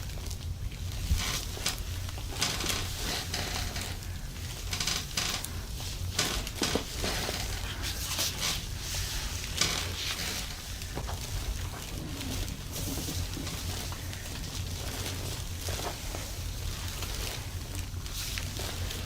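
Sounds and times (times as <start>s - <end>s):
hands rubbing skin and clothing: 1.0s - 19.0s.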